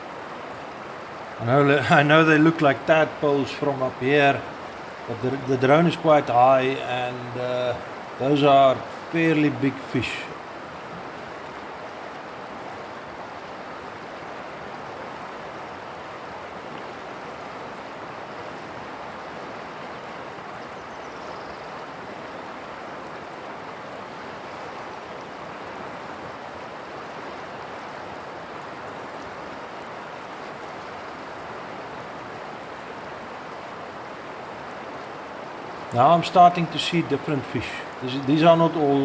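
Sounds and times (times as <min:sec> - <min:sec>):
river water rushing: 0:00.0 - 0:21.0, 0:21.6 - 0:39.0.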